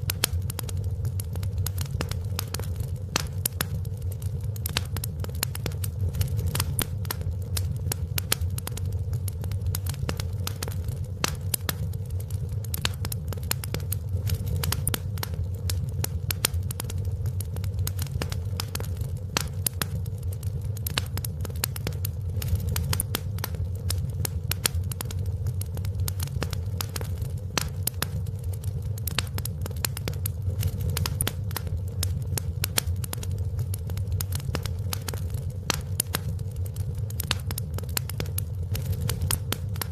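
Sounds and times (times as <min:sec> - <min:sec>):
fire crackling pops and snaps: 0:00.0 - 0:39.9
low rumble of flames: 0:00.0 - 0:39.9.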